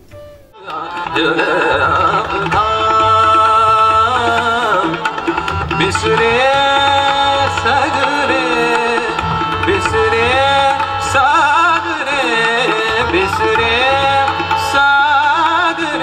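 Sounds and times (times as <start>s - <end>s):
tabla: 0.0s - 16.0s
harmonium: 0.1s - 16.0s.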